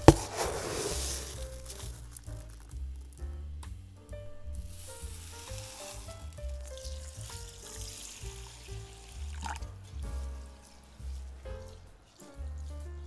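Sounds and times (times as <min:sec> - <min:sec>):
water pouring onto rice: 0:00.0 - 0:02.9, 0:04.5 - 0:13.0
background music: 0:00.0 - 0:13.0.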